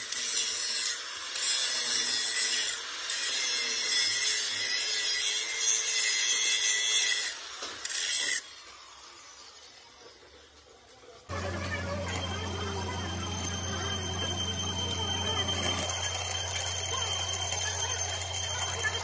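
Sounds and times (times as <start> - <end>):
angle grinder grinding metal: 0.0 - 9.8, 11.3 - 19.0.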